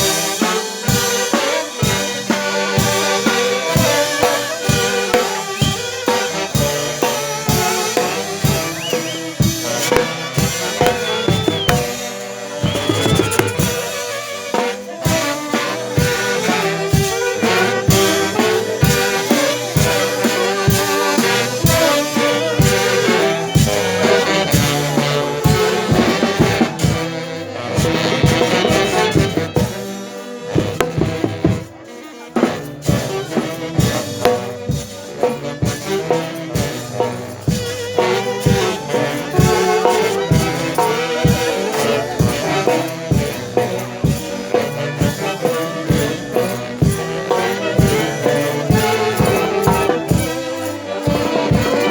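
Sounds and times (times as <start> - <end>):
brass instruments playing: 0.0 - 51.9
steady drum beat: 0.0 - 51.9.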